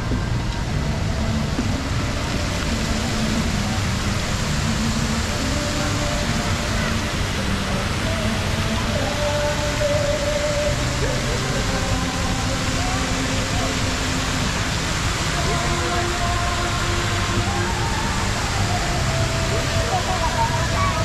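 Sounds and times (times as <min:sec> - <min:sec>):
faint voices: 0:00.0 - 0:21.0
fountain water splashing: 0:00.0 - 0:21.0.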